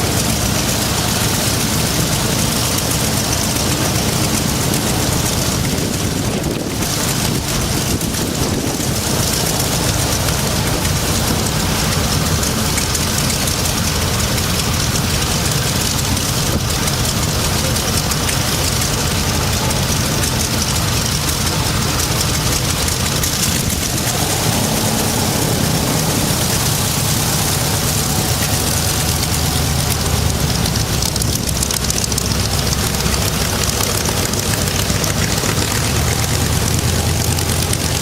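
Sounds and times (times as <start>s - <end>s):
propeller plane engine running: 0.0s - 38.0s.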